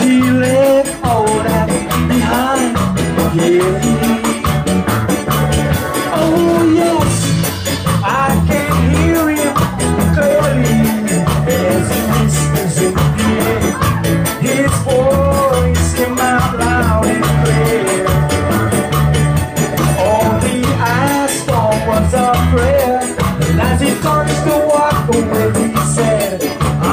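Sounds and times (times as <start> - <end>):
person singing: 0.0 - 19.0, 19.8 - 26.9
live band playing upbeat song: 0.0 - 26.9.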